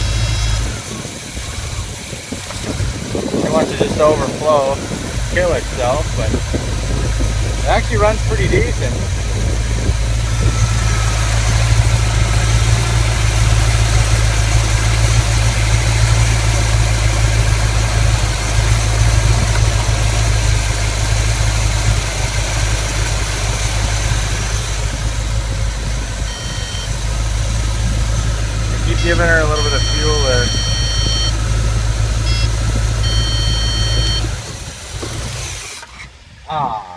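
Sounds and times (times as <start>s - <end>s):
car engine idling: 0.0s - 36.8s.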